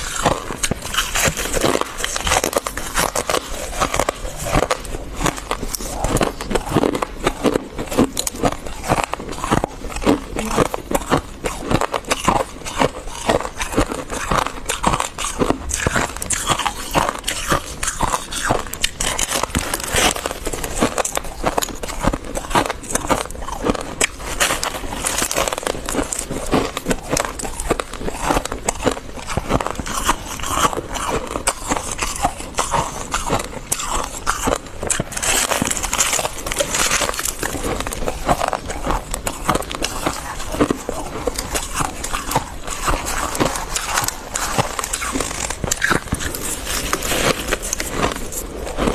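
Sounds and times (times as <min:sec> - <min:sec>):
frost crunching as chewed: 0:00.0 - 0:48.9.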